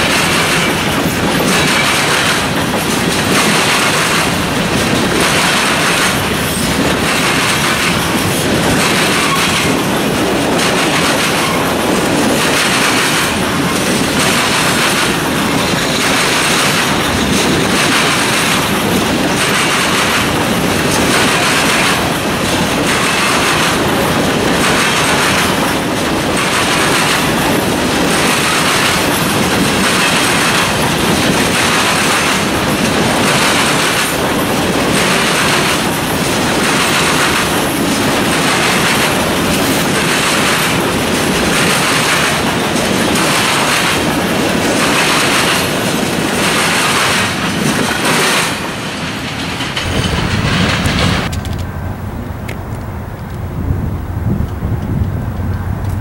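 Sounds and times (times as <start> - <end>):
train wheels rumbling on rail: 0.0 - 56.0
wheels clickety-clack on rail joints: 0.0 - 56.0.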